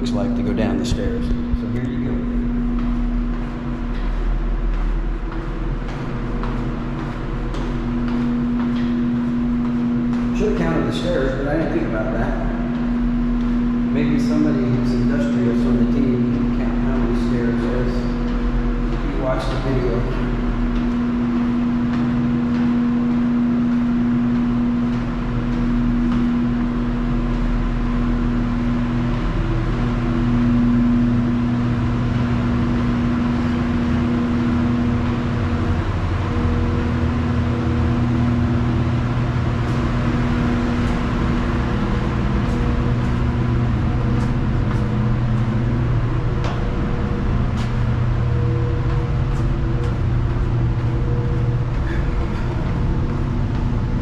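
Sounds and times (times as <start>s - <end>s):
loud low hum: 0.0s - 54.0s
footsteps on a staircase: 0.3s - 54.0s.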